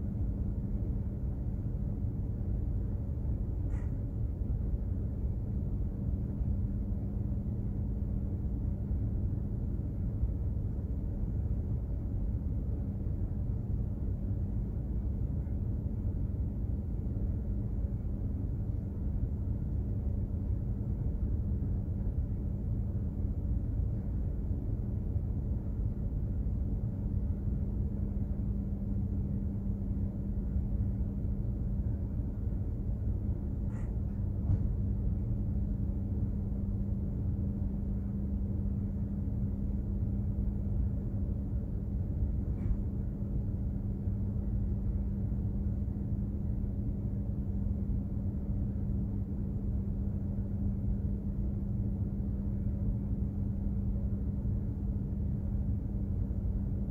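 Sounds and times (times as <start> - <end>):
constant hum: 0.0 - 56.9.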